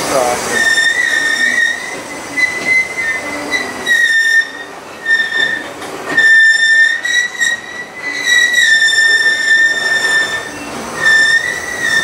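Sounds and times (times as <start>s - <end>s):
train cars rumbling: 0.0s - 12.0s
steel wheels squealing: 0.4s - 12.0s.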